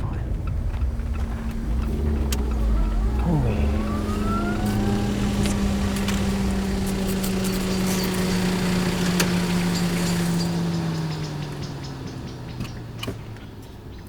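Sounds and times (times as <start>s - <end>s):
engine running with low hum: 0.0s - 14.0s.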